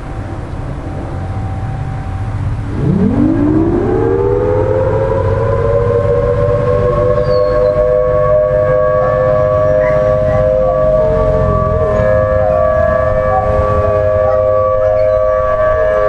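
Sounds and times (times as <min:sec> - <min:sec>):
tornado siren wailing: 0:00.0 - 0:16.0.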